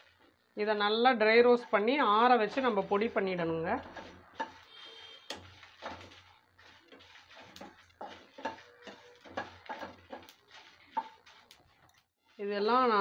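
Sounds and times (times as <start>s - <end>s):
metal spatula scraping a pan: 0.0s - 13.0s.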